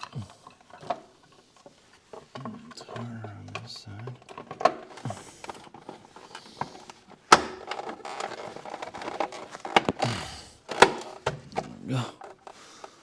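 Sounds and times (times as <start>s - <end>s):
hand tools clicking and knocking on metal: 0.0s - 13.0s.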